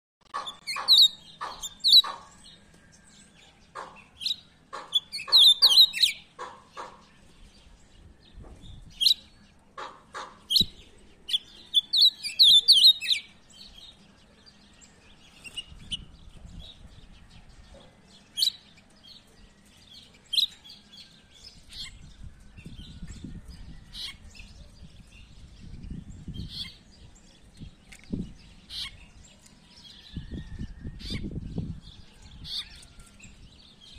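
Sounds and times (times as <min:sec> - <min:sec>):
songbird chirping and twittering: 0:00.2 - 0:33.9.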